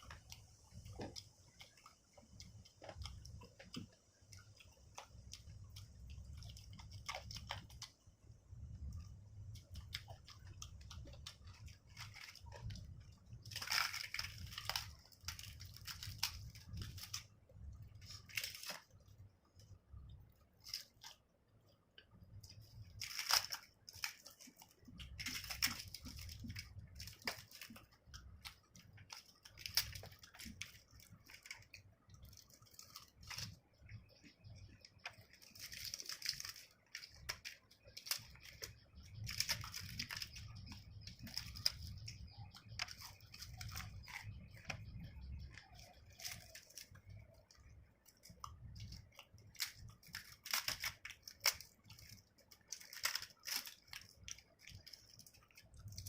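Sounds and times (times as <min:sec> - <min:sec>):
person chewing food: 0:00.0 - 0:08.1, 0:08.8 - 0:56.0
wet clicks and tearing: 0:00.0 - 0:08.1, 0:08.8 - 0:19.7, 0:22.0 - 0:56.0.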